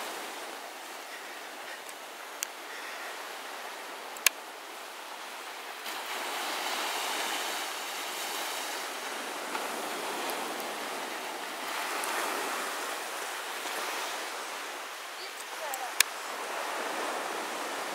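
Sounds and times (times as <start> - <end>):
waves breaking on a beach: 0.0 - 17.9.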